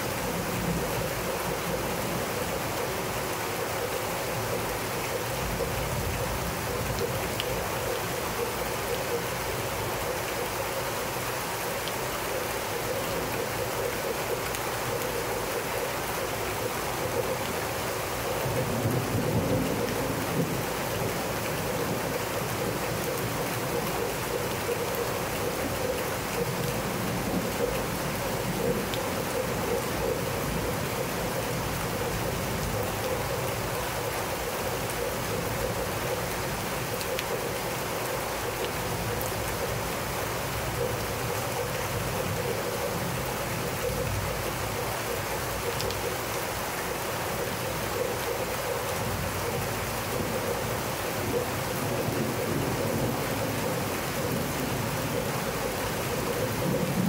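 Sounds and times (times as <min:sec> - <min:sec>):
rain falling on pavers: 0:00.0 - 0:57.0.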